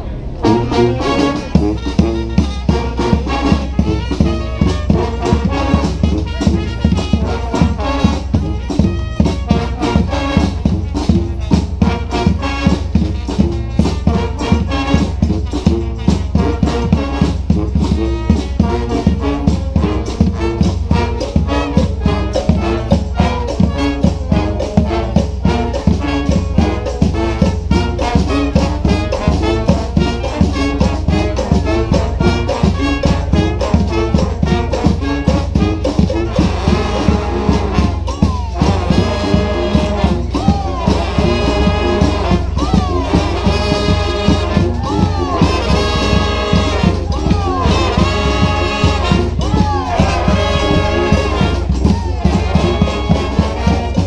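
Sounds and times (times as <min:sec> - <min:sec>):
brass band playing: 0:00.0 - 0:54.0
snare and bass drums beat: 0:00.4 - 0:54.0.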